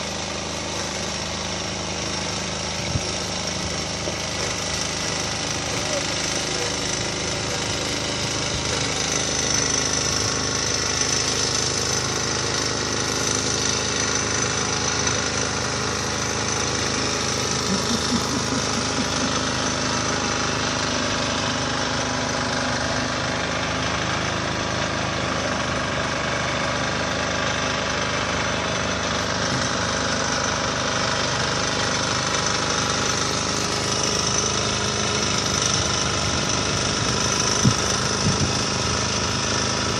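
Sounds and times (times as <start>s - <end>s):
road-works machine clattering: 0.0s - 39.9s.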